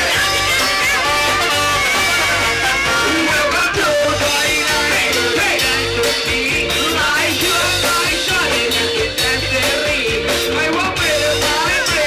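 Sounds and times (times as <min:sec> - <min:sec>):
bass beat: 0:00.0 - 0:12.0
electric guitar: 0:00.0 - 0:12.0
horns: 0:00.0 - 0:12.0
person singing: 0:00.0 - 0:12.0.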